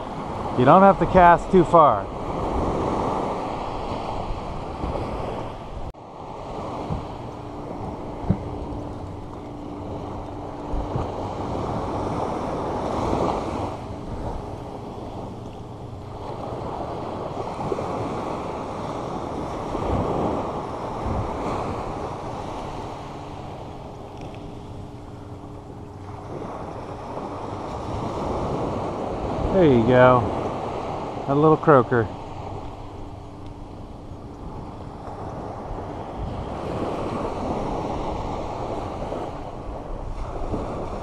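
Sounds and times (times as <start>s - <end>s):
waves breaking on beach: 0.0s - 41.0s.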